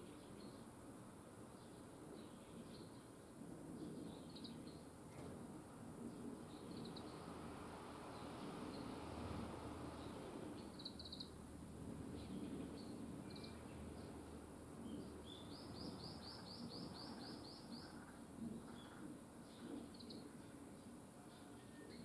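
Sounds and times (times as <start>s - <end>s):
low background hiss: 0.0s - 22.0s
songbirds chirping: 0.0s - 22.0s.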